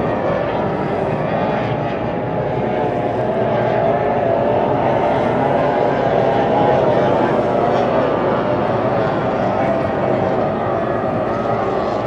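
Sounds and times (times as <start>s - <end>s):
racing boat engines droning: 0.0s - 12.0s.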